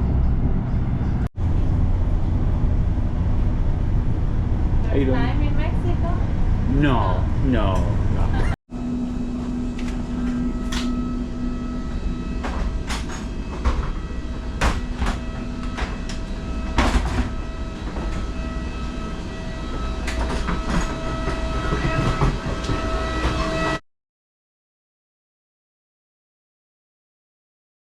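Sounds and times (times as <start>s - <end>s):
train rumbling and whining: 0.0s - 23.8s.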